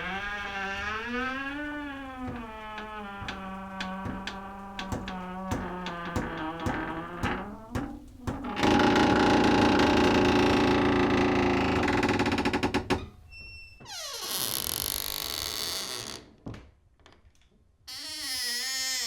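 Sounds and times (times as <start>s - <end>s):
door hinges creaking: 0.0s - 16.4s, 17.9s - 19.0s.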